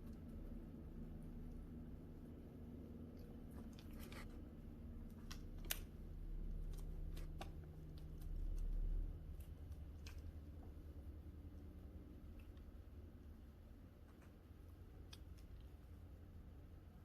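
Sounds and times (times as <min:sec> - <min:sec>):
cat chewing and licking food: 0:00.0 - 0:17.0
low steady hum: 0:00.0 - 0:17.0.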